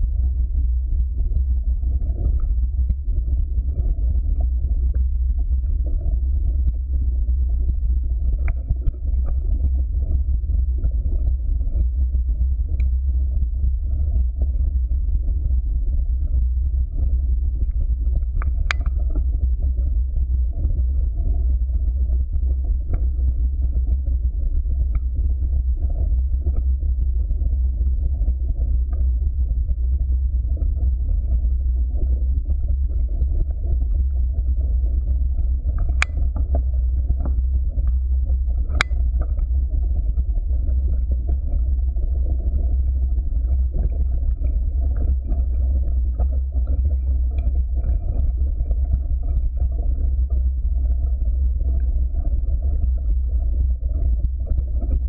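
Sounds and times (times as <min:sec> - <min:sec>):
wind and vibration rumble: 0:00.0 - 0:55.0.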